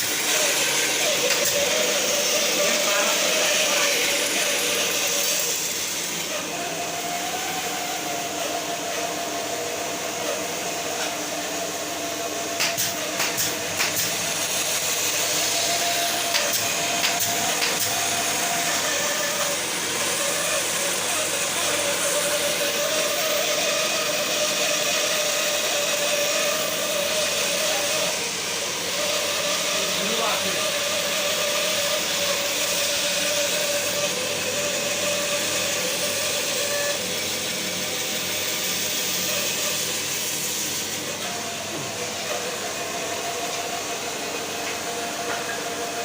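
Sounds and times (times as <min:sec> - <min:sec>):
electric motor running: 0:00.0 - 0:46.0.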